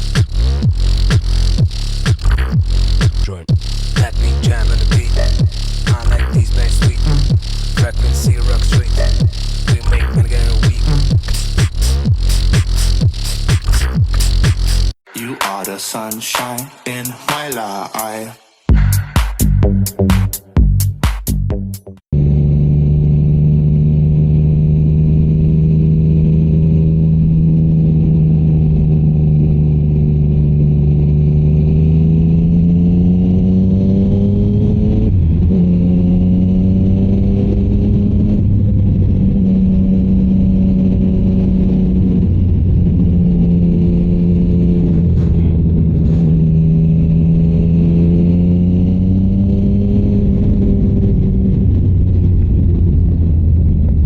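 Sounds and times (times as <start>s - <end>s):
motorcycle engine revving: 0.0s - 15.0s, 22.2s - 52.2s.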